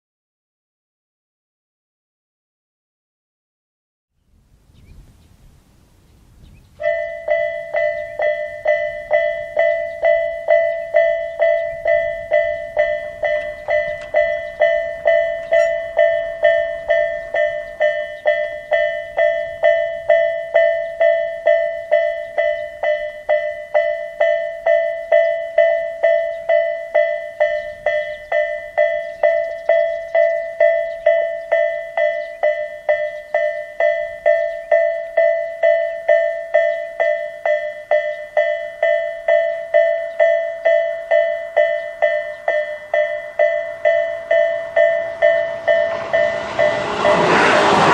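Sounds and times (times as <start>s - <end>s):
level-crossing warning bell: 6.8s - 47.9s.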